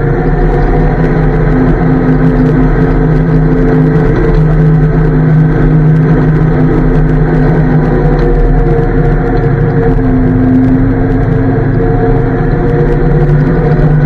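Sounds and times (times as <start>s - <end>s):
armoured car engine droning: 0.0s - 14.0s.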